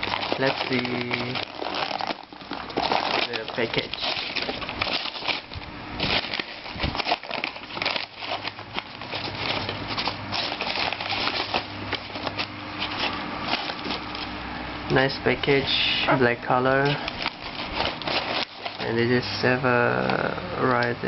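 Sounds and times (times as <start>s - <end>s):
packaging rustling and crinkling: 0.0s - 14.4s, 15.0s - 20.9s.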